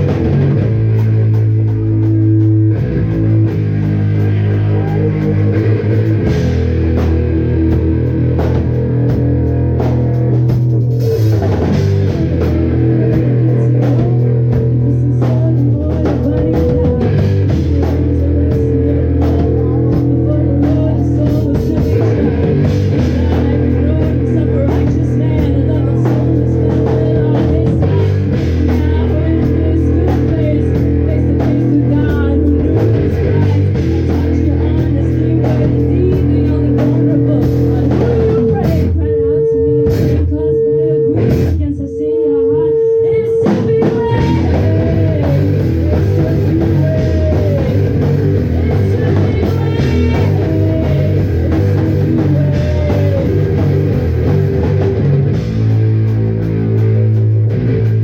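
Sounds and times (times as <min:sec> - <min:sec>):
live rock band playing: 0:00.0 - 0:41.7, 0:42.4 - 0:58.0.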